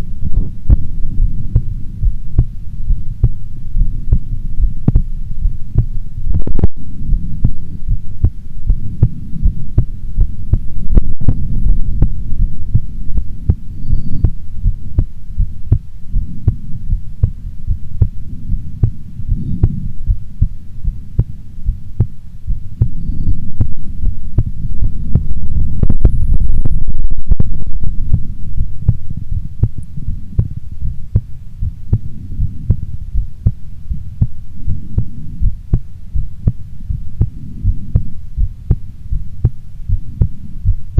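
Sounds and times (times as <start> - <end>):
heartbeat: 0.0 - 40.9
low rumble: 0.0 - 40.9.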